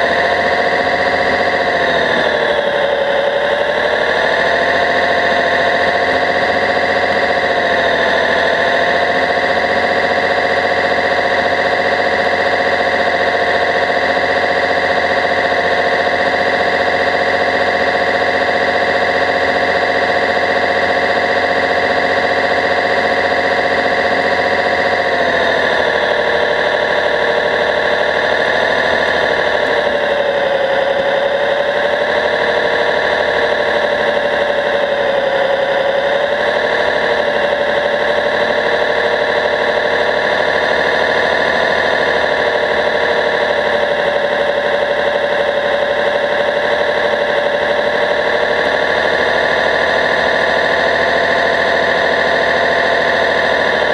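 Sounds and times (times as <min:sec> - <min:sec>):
model bulldozer motor whine: 0:00.0 - 0:53.9
noisy rattle: 0:00.0 - 0:53.9.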